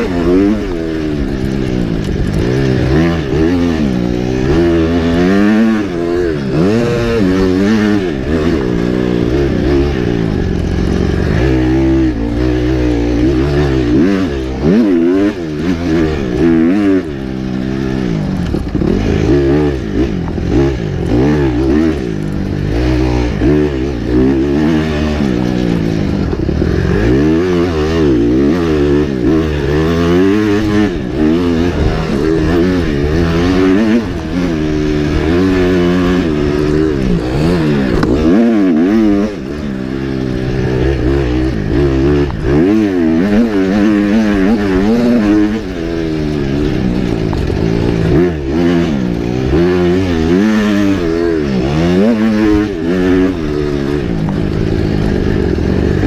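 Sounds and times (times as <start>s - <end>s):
motorbike engine revving hard: 0.0s - 56.0s.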